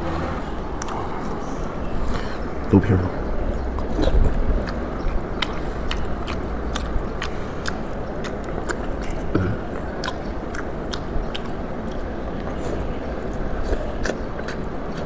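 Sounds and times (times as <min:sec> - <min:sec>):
chewing food wet smacks: 0:00.7 - 0:02.2, 0:03.5 - 0:15.0.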